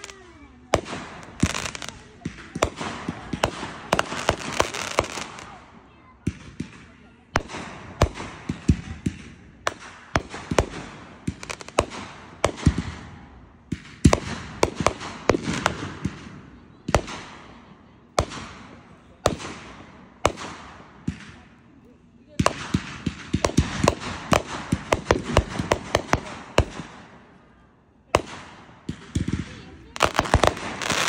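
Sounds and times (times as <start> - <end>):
firework bangs: 0.0 - 21.6, 22.3 - 27.4, 28.1 - 31.0
crackling hiss of fireworks: 0.0 - 31.0.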